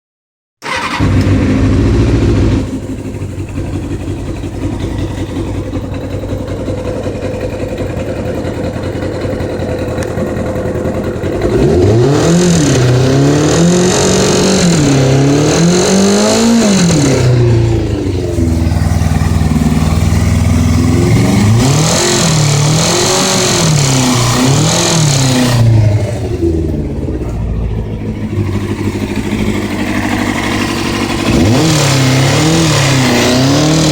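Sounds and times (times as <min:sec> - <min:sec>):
engine idling and revving: 0:00.6 - 0:33.9.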